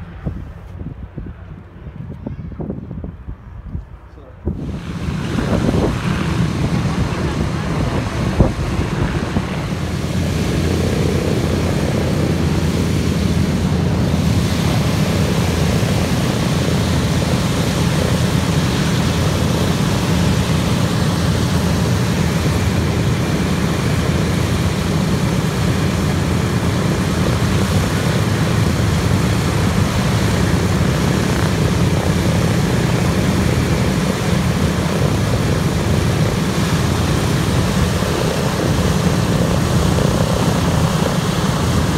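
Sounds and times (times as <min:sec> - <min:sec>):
propeller aircraft engines droning: 0:00.0 - 0:41.9.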